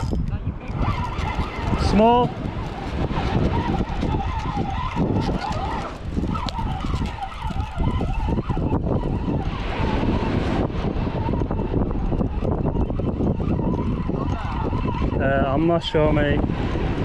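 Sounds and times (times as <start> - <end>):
wind buffeting microphone: 0.0 - 17.0
fishing reel whirring: 0.7 - 17.0.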